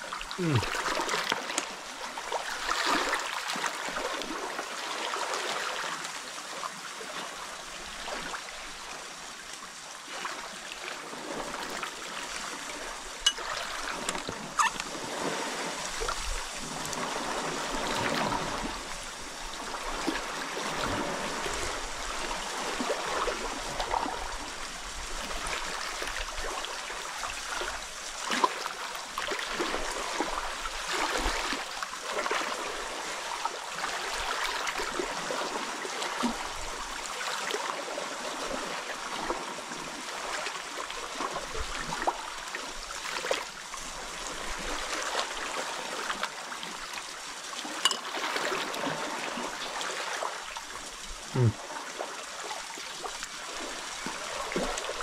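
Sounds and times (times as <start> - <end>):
waves washing over rocks: 10.1 - 55.0.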